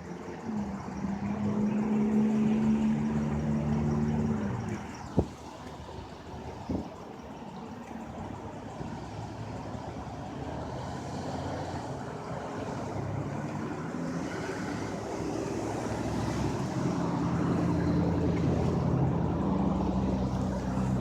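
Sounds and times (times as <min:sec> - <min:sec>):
road noise rumble: 0:00.0 - 0:21.0
vehicle engine: 0:00.0 - 0:21.0.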